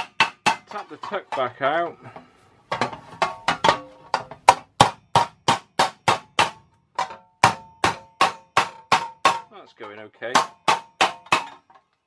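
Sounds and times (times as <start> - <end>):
hammer tapping sheet metal: 0.0 - 0.8, 2.8 - 11.6.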